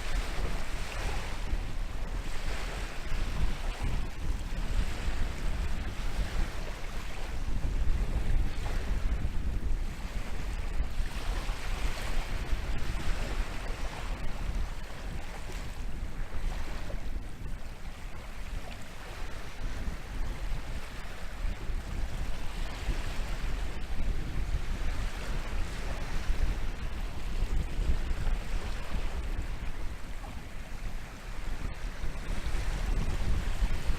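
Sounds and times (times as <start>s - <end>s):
surf breaking on a beach: 0.0s - 33.9s
wind buffeting microphone: 0.0s - 33.9s.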